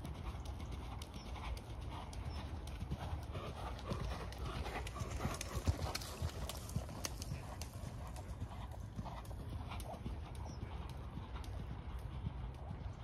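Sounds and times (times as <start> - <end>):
hoofbeats on soft ground: 0.0 - 13.0.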